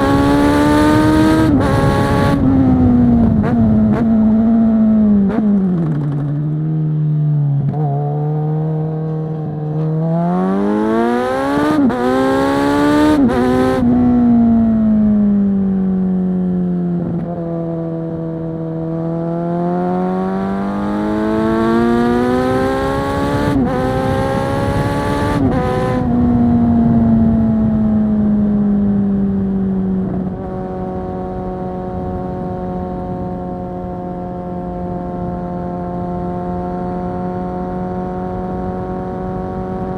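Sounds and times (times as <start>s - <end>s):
wind noise: 0.0s - 6.6s, 9.4s - 16.0s, 20.2s - 39.9s
motorcycle engine revving: 0.0s - 39.9s.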